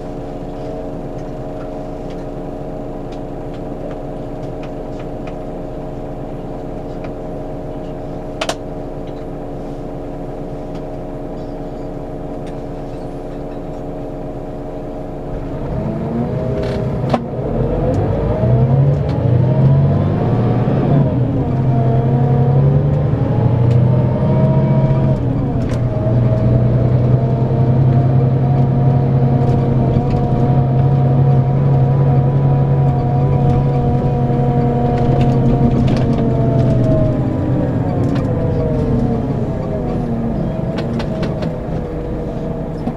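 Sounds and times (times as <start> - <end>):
diesel coach engine: 0.0 - 42.9.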